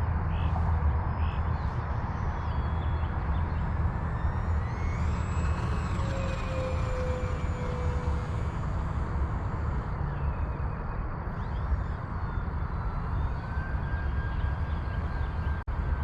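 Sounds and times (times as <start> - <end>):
rc plane electric motor whine: 1.5 - 16.0.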